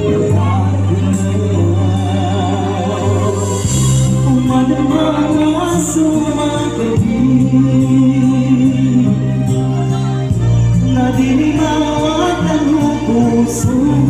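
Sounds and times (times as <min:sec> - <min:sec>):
instrumental accompaniment: 0:00.0 - 0:14.0
person singing through microphone: 0:00.0 - 0:14.0.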